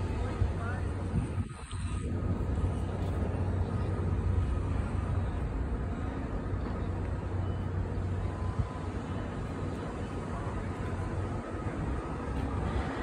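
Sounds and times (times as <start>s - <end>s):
outdoor background rumble: 0.0s - 13.0s.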